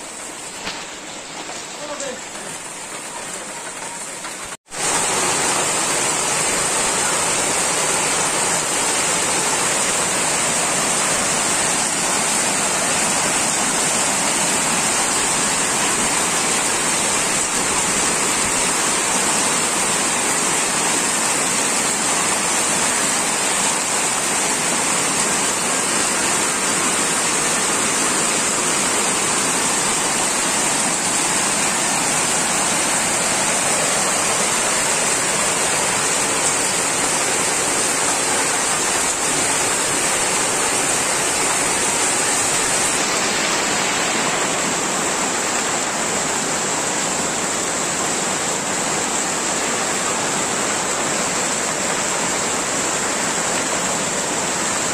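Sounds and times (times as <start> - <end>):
heavy rain splashing into water: 0.0 - 54.9.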